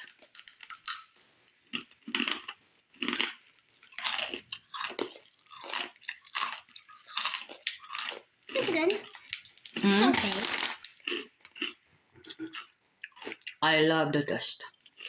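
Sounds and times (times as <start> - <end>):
crunchy chips being chewed: 0.0 - 13.6, 14.7 - 15.0.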